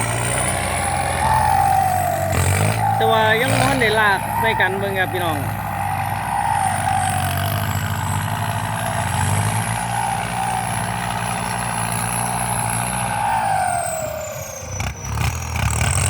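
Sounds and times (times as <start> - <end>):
tractor diesel engine running: 0.0 - 16.0
turbocharger whine: 0.0 - 16.0.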